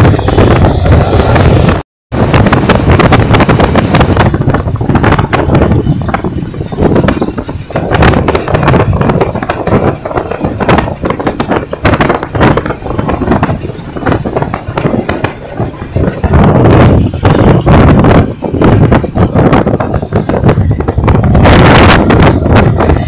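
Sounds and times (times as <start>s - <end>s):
motorcycle engine: 0.0s - 23.0s
tyre noise: 0.0s - 23.0s
wind buffeting microphone: 0.0s - 23.0s.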